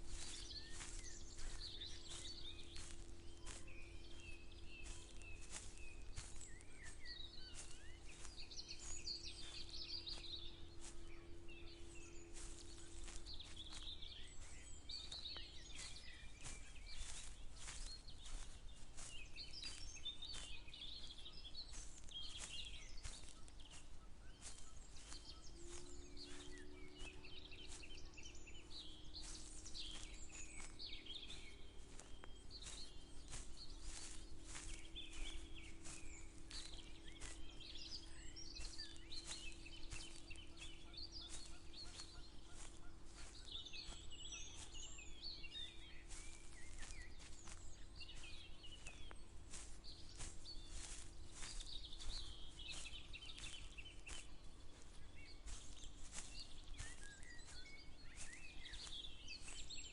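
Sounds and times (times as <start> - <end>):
birds chirping and singing: 0.0 - 59.9
walking footsteps: 0.0 - 59.9.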